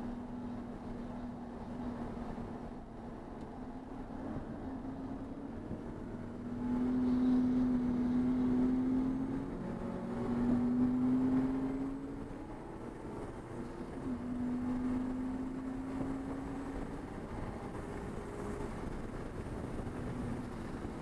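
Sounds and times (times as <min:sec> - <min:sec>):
race car engine pulling hard: 0:01.6 - 0:21.0.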